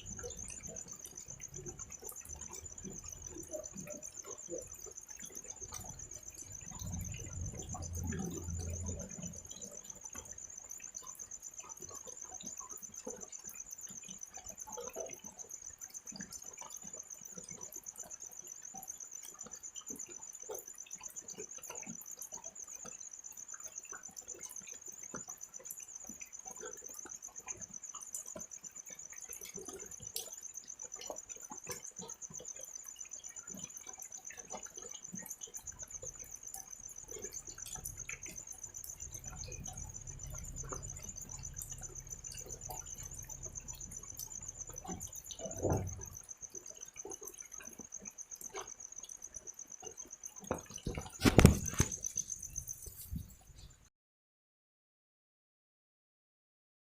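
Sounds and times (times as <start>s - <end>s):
drizzle pattering and dripping: 0.0s - 53.6s
cricket trilling: 0.0s - 53.9s.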